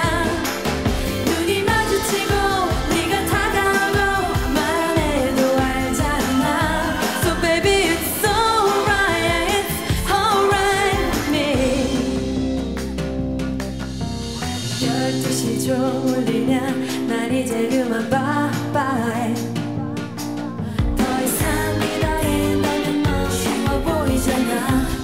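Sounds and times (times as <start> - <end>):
person singing pop song: 0.0 - 13.2, 14.7 - 25.0
drum beat and backing track: 0.0 - 25.0.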